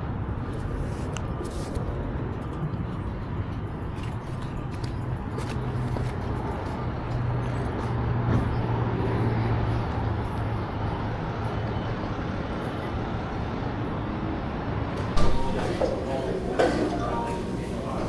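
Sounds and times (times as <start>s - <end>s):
vehicle and road noise: 0.0s - 18.0s.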